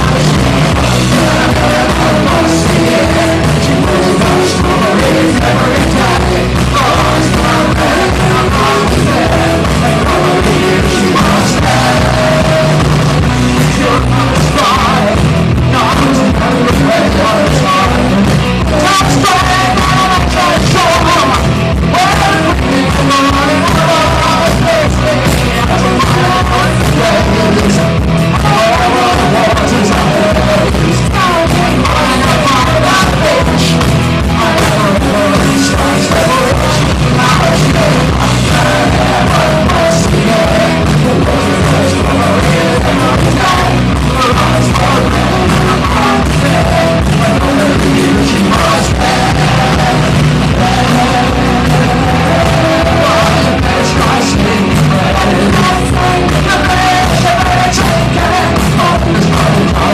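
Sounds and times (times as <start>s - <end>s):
person singing: 0.0s - 59.9s
punk band playing live: 0.0s - 59.9s.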